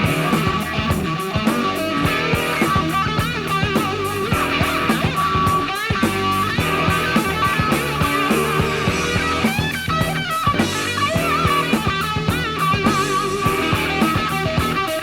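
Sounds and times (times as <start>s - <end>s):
bass guitar: 0.0s - 15.0s
electric guitar lead: 0.0s - 15.0s
steady drum beat: 0.0s - 15.0s.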